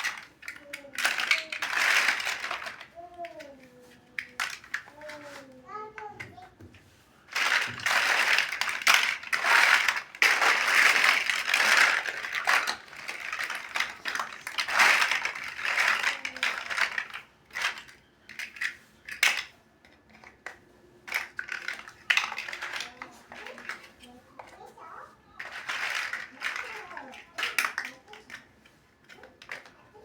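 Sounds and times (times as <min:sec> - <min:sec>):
plastic bricks rattling and clicking: 0:00.0 - 0:06.5, 0:07.3 - 0:30.0.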